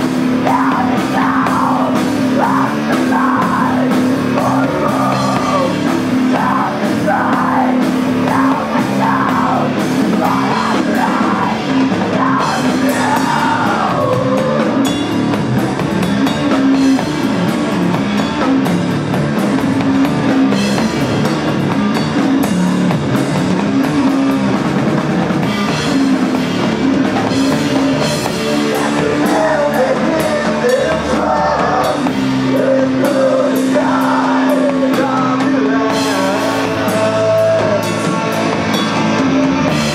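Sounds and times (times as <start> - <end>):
bass guitar low notes: 0.0 - 39.9
drum kit pounding: 0.0 - 39.9.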